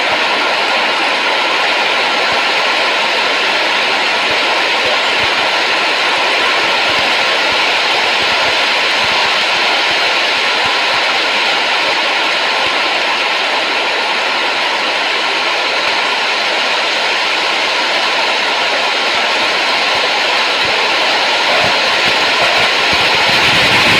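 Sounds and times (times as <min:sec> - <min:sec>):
continuous rushing noise: 0:00.0 - 0:23.9.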